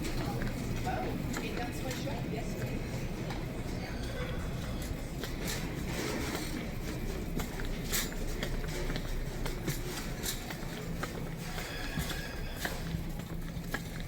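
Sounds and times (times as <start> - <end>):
footsteps: 0.0 - 14.0
shopping cart wheels rattling: 0.0 - 14.0
steady low hum: 0.0 - 14.0.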